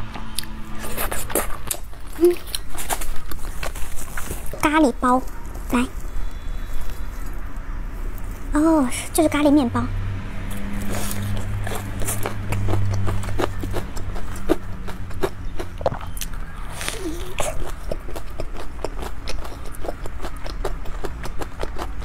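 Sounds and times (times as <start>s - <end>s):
low steady hum: 0.0s - 22.0s
crunchy chewing: 0.3s - 8.5s, 10.4s - 22.0s.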